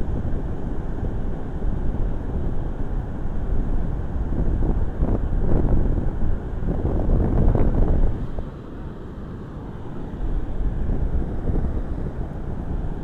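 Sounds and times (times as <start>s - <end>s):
wind buffeting microphone: 0.0s - 8.9s, 9.7s - 13.0s.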